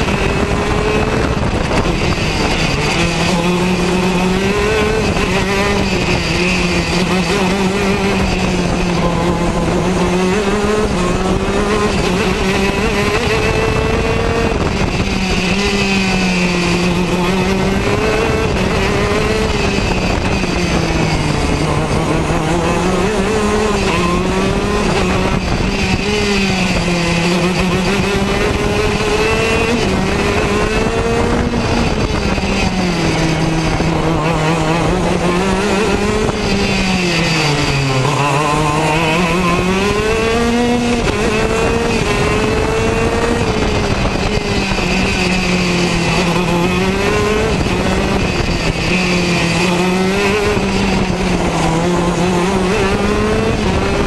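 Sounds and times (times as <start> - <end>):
kart engine at high revs: 0.0 - 54.0.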